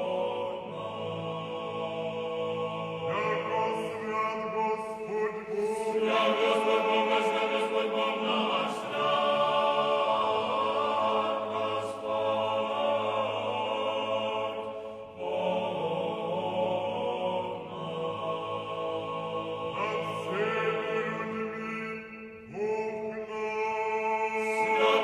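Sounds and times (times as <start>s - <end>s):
choir chanting: 0.0s - 25.0s.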